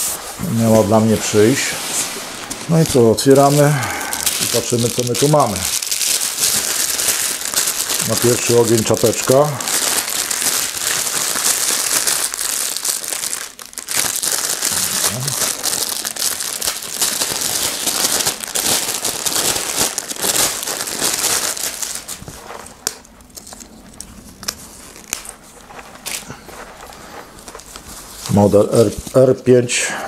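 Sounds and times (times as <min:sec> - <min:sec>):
plastic bag crinkling: 0:00.0 - 0:29.4.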